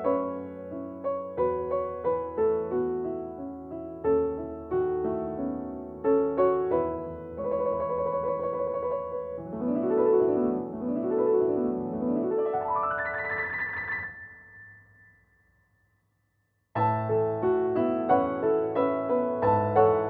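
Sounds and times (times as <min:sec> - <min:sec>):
piano music: 0:00.0 - 0:15.4, 0:16.8 - 0:20.0.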